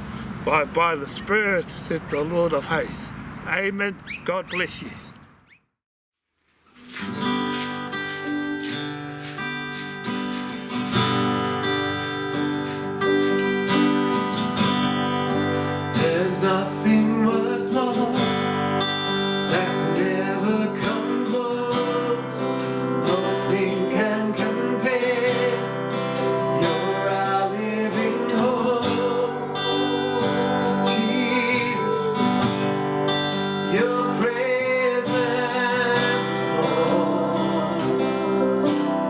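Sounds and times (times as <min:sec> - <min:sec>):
worship music with acoustic guitar: 0:06.7 - 0:39.0.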